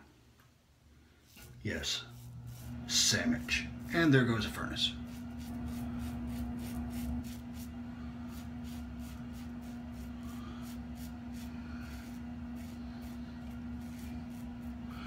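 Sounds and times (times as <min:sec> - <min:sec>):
furnace humming: 0:00.0 - 0:15.0
razor scraping stubble: 0:01.3 - 0:04.1, 0:05.0 - 0:07.7, 0:08.3 - 0:15.0.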